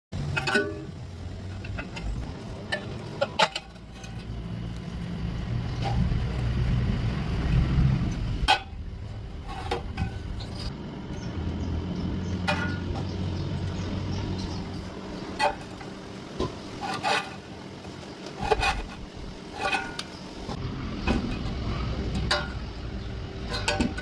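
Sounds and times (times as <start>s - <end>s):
low machine hum: 0.2s - 24.0s.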